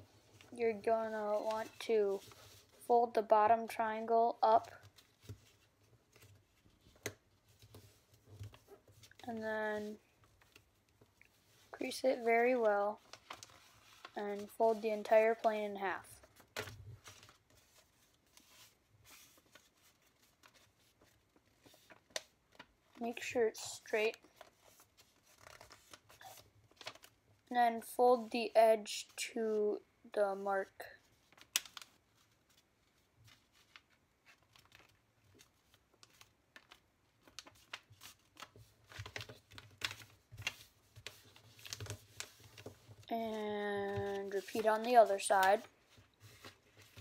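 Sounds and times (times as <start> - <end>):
paper rustling while folded: 0.0 - 27.5, 30.3 - 47.0.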